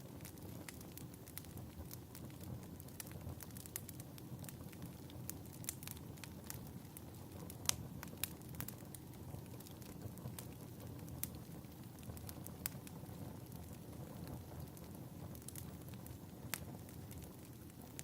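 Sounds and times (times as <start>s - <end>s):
fireplace crackling: 0.0s - 18.0s.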